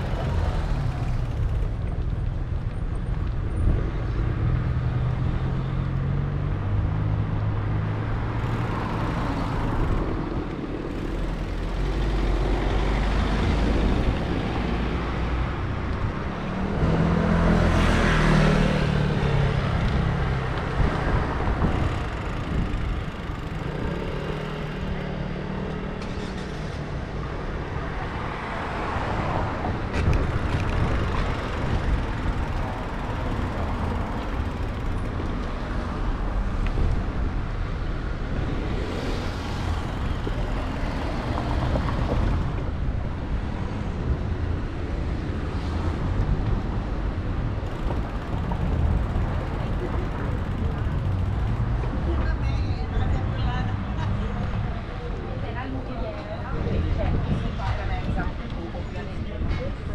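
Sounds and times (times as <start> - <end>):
motor vehicles passing: 0.0 - 59.9
road noise rushing: 0.0 - 59.9.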